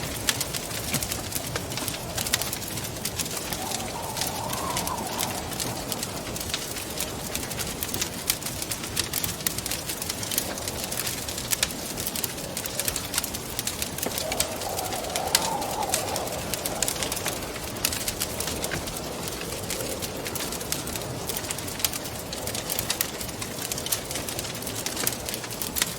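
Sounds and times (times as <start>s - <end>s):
wind moaning: 0.0s - 22.9s
wood fire crackling and popping: 0.0s - 25.9s.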